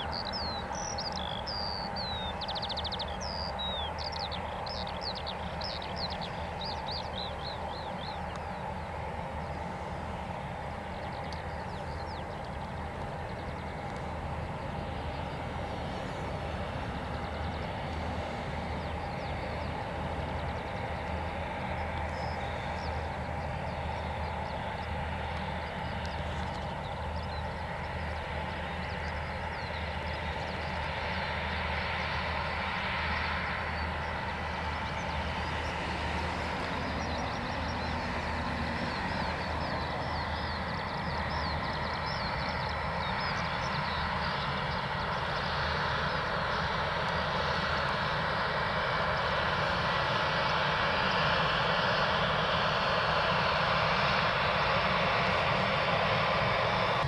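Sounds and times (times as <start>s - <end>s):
airliner engines humming: 0.0s - 57.0s.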